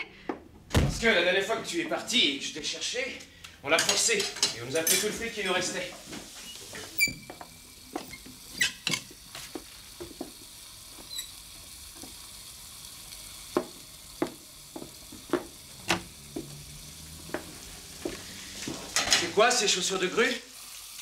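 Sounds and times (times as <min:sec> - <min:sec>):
food sizzling in a pan: 0:04.0 - 0:21.0.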